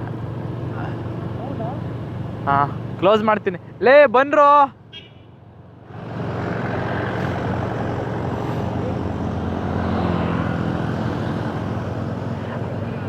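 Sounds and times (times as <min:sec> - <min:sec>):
low engine hum: 0:00.0 - 0:03.8, 0:04.8 - 0:13.0
wind and road noise: 0:00.0 - 0:13.0.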